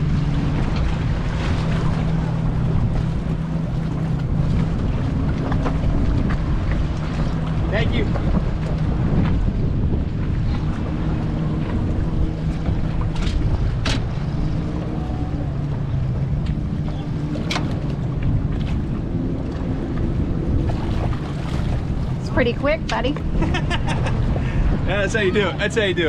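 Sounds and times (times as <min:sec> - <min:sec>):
outboard motor idling: 0:00.0 - 0:26.0
wind on microphone: 0:00.0 - 0:26.0.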